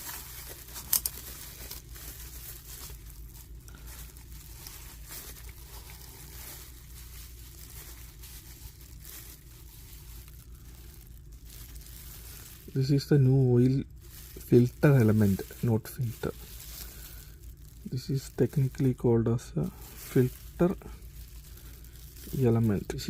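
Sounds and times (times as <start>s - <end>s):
faint rustling and handling: 0.0s - 23.0s
low steady hum: 0.0s - 23.0s.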